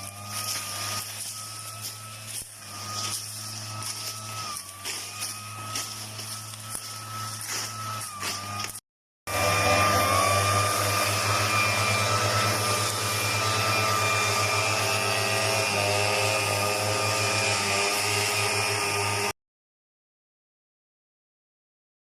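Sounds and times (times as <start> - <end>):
small petrol engine running: 0.0 - 19.3.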